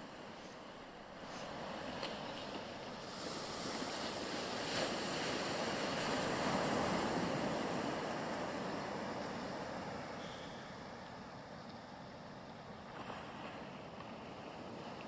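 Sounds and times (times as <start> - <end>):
sea surf washing on shore: 0.0 - 15.0.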